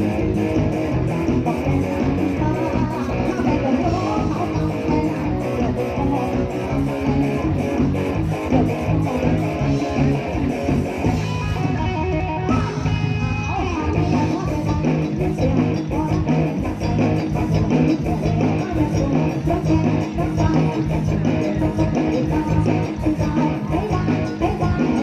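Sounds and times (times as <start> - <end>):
lead guitar: 0.0 - 25.0
live band playing: 0.0 - 25.0.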